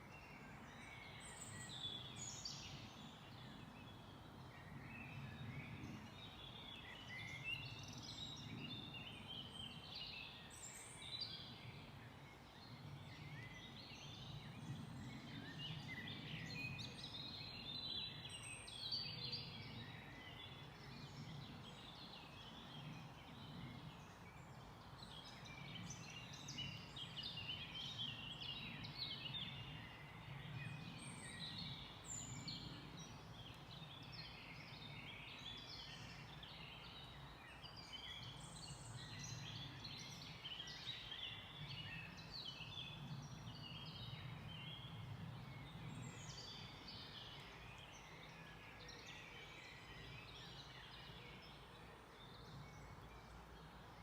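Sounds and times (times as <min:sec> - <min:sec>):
birds singing and chirping: 0:00.7 - 0:53.8.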